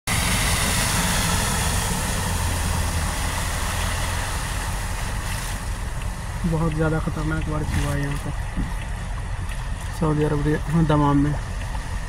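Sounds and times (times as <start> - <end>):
vehicle engine humming: 0.0 - 12.0
water rushing and spraying: 0.1 - 12.0.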